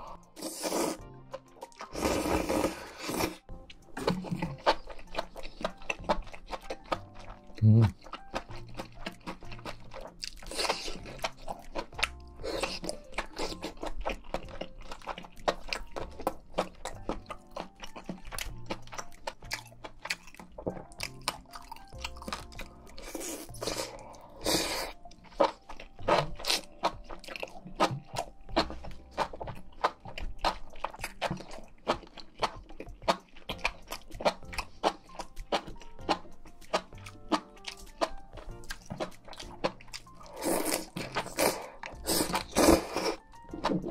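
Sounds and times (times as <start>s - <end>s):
chewing and crunching food: 0.0s - 43.9s
soft background music: 0.0s - 43.9s.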